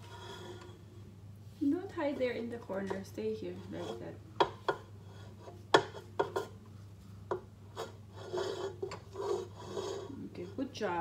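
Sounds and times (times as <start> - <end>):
wooden spoon scraping metal bowl: 0.0 - 0.9, 1.6 - 6.6, 7.7 - 11.0.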